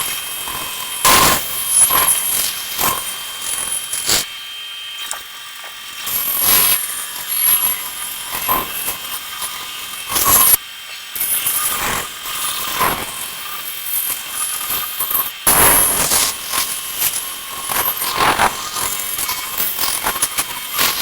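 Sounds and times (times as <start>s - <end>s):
bandsaw cutting wood: 0.0s - 4.4s, 5.9s - 10.6s, 11.2s - 21.0s
motor hum: 0.0s - 21.0s.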